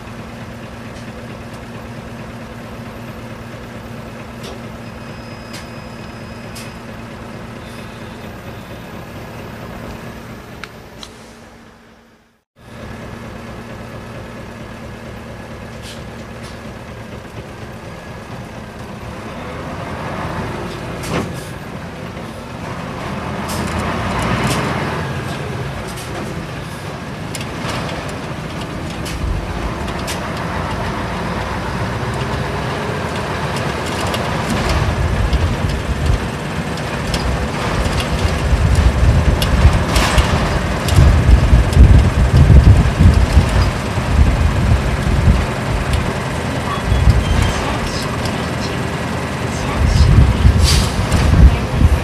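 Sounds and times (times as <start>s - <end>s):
bus diesel engine: 0.0s - 52.0s.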